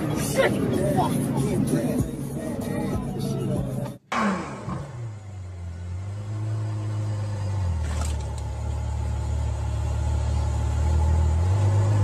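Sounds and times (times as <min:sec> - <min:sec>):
sports car engine low rumble: 0:00.0 - 0:12.0.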